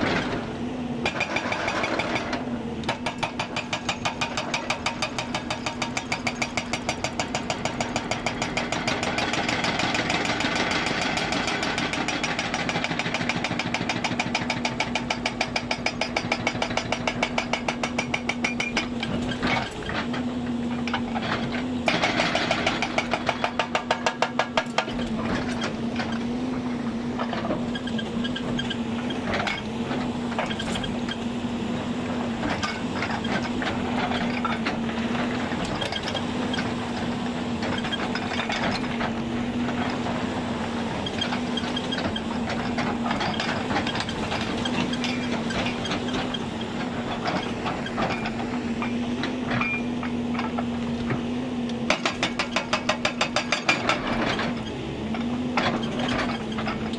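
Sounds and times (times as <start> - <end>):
hydraulic breaker hammering rock: 0.0 - 31.2, 31.8 - 56.9
excavator engine hum: 0.0 - 56.9.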